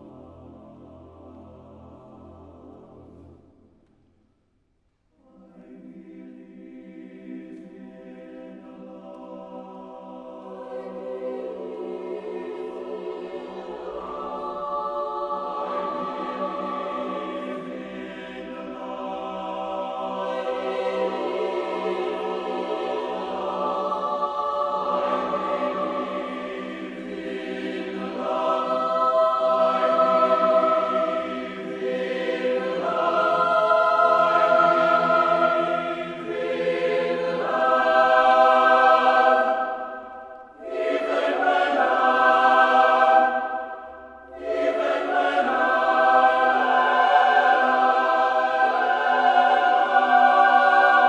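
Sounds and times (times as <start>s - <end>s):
choir singing sustained chords: 0.0s - 3.9s, 5.1s - 51.0s
music: 0.0s - 51.0s.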